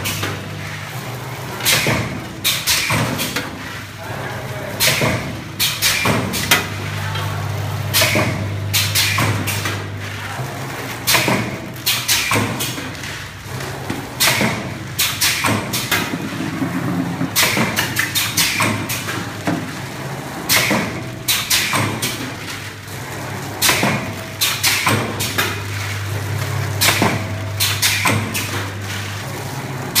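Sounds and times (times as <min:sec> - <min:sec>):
packing machine clacking and thudding: 0:00.0 - 0:30.0.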